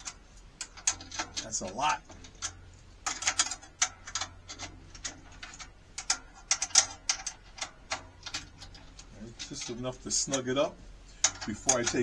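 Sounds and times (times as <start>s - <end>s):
drum key ratchet clicking: 0.0s - 12.0s.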